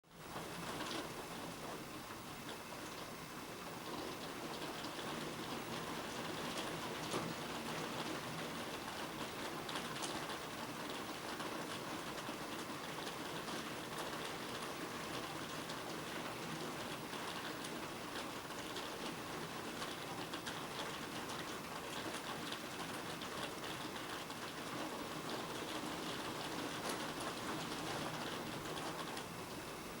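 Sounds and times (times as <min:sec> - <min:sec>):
raindrops pattering on surfaces: 0:00.2 - 0:30.0.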